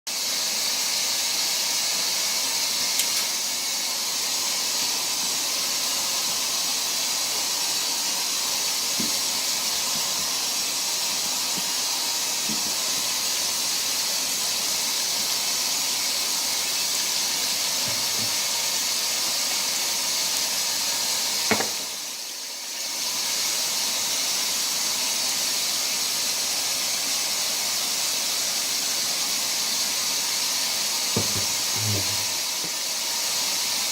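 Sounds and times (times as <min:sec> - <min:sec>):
running water hissing: 0:00.1 - 0:33.9.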